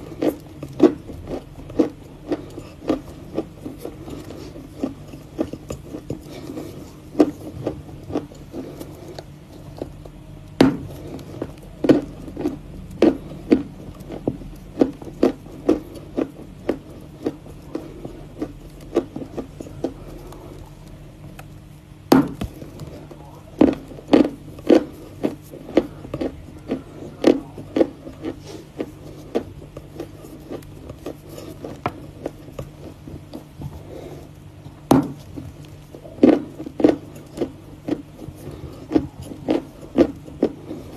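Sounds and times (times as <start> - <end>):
chewing crunchy chalk: 0.0 - 21.7, 22.3 - 40.9.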